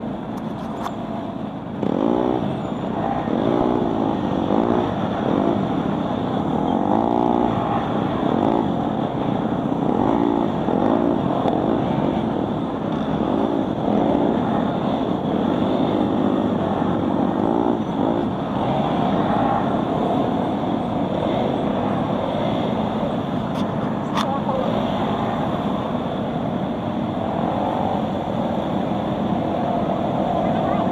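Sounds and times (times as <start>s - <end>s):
motorcycles passing: 0.0s - 30.9s.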